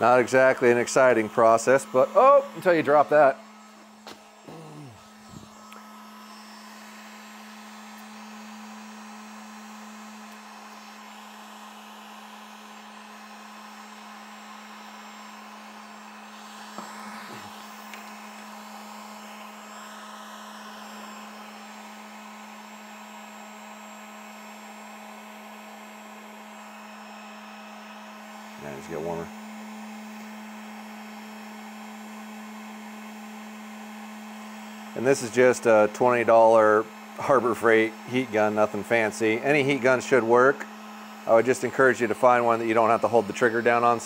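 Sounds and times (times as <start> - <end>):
heat gun running: 0.0 - 44.0.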